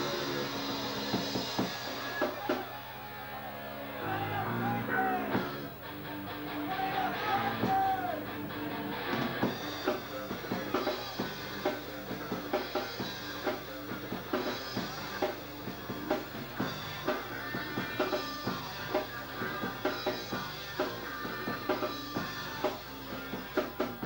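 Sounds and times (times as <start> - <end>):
hard-hit drum beat: 0.0 - 2.8, 5.0 - 24.0
punk rock band playing: 0.0 - 24.0.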